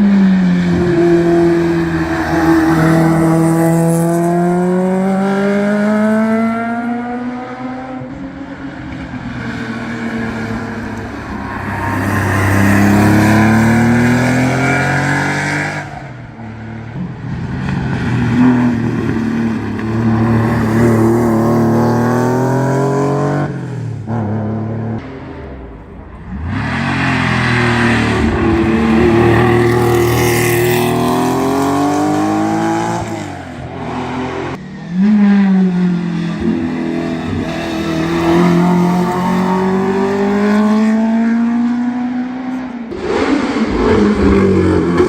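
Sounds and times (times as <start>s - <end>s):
race car engines at full throttle: 0.0s - 45.0s.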